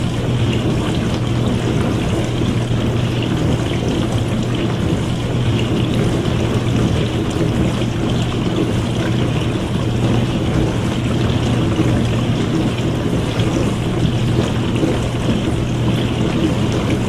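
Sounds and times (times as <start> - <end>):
dishwasher pump motor hum: 0.0 - 17.0
water spraying in dishwasher: 0.0 - 17.0.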